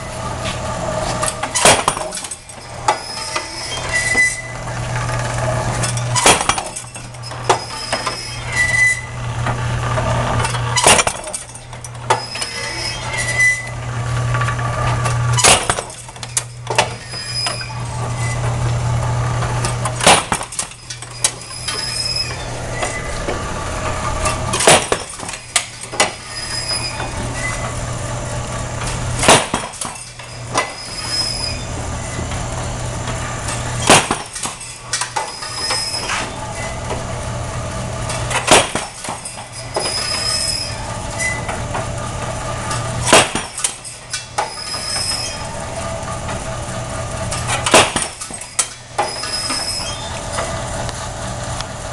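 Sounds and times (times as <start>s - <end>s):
motor and belt-drive hum: 0.0s - 51.9s.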